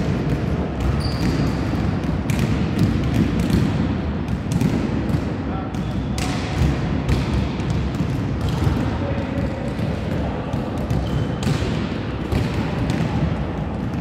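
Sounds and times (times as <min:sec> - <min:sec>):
volleyballs struck and bouncing: 0:00.0 - 0:14.0.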